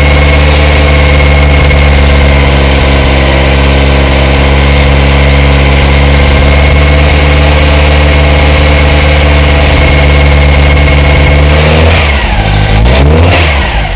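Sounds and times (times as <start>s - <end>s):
car engine running: 0.0s - 13.9s.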